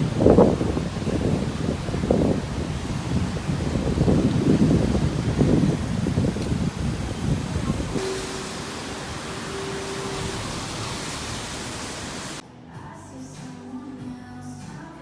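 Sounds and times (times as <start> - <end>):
sea surf hiss: 0.0 - 12.4
wind gusting on microphone: 0.0 - 12.4.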